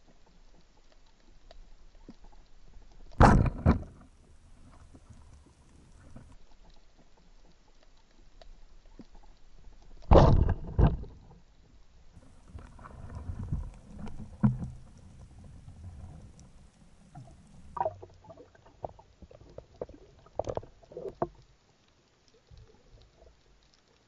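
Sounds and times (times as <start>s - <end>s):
underwater rumble: 0.0s - 21.6s.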